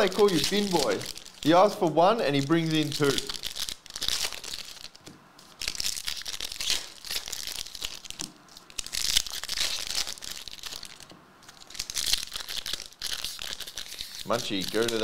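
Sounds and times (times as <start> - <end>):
foil wrappers tearing and crinkling: 0.0 - 15.0.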